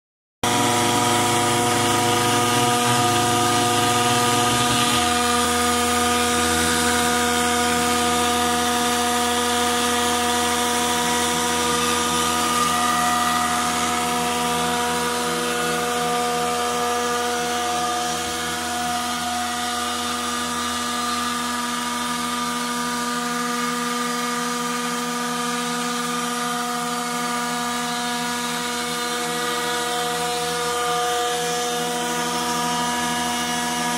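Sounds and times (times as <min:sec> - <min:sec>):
router spindle whining: 0:00.4 - 0:33.9.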